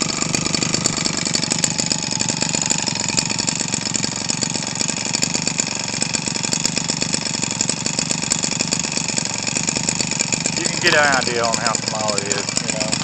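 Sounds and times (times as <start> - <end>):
small two-stroke engine running: 0.0 - 13.0.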